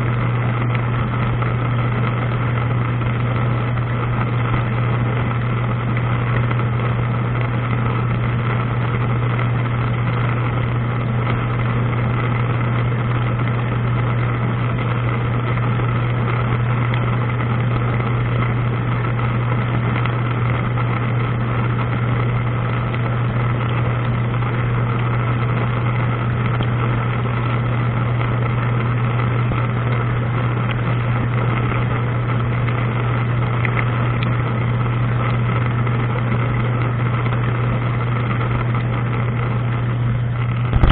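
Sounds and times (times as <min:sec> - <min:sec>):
dishwasher motor hum: 0:00.0 - 0:40.9.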